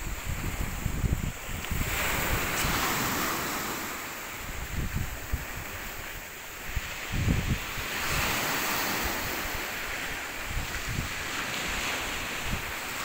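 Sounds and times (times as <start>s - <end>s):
waves washing up a pebbly beach: 0.0s - 13.0s
wind buffeting microphone: 0.0s - 13.0s.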